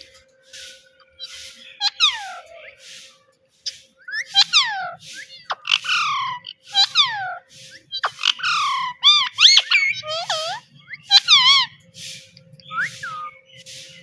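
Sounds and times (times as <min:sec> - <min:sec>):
parrot calling: 0:01.0 - 0:13.6.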